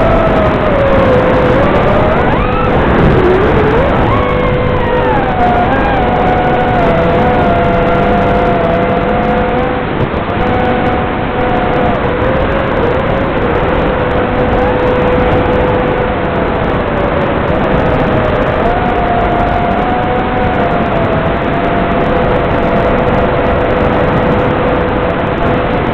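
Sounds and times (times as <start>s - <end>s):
drone motors whining: 0.0s - 25.7s
wind noise: 0.0s - 25.9s.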